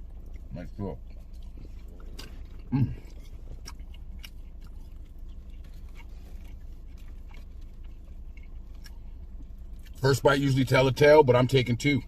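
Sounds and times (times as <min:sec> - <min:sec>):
person chewing food: 0:00.0 - 0:10.0
low steady hum: 0:00.0 - 0:12.0.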